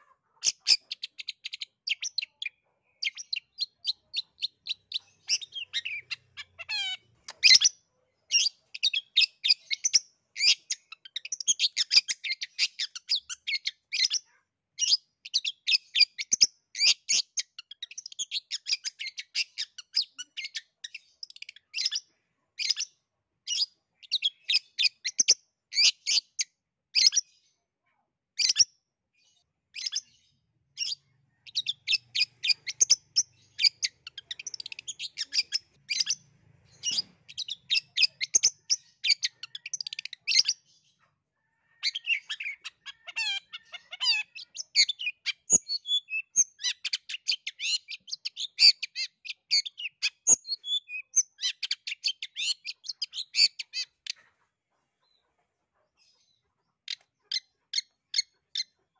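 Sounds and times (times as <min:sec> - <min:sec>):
bird chattering song: 0:00.0 - 0:27.5, 0:28.4 - 0:58.9.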